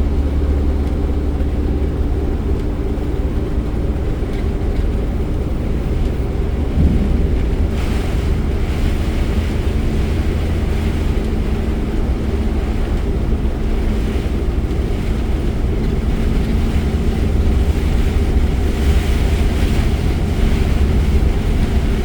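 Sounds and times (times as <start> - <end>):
tyre and engine rumble: 0.0 - 22.0
hiss of rain and spray: 2.0 - 22.0.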